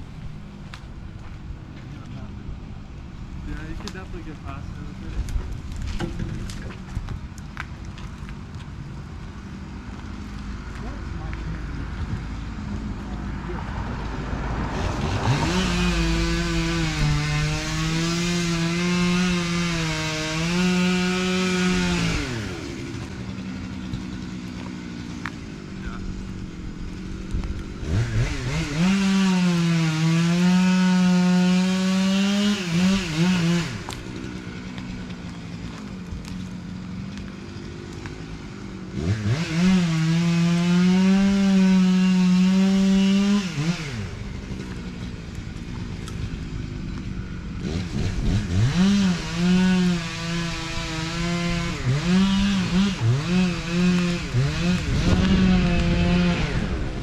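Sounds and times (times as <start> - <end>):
chainsaw revving and idling: 2.0 - 57.0.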